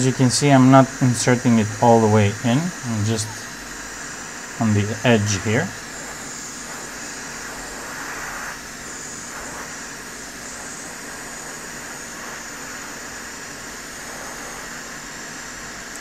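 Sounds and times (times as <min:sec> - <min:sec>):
faint fan hum: 0:00.0 - 0:16.0
hot air blower hissing: 0:00.0 - 0:16.0.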